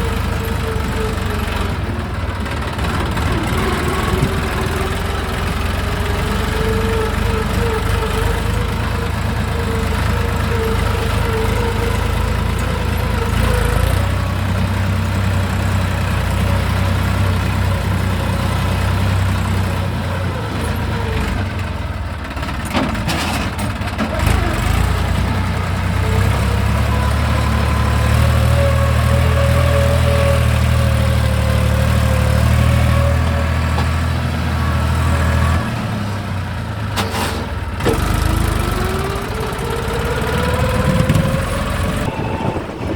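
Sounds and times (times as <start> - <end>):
tractor diesel engine: 0.0 - 42.9.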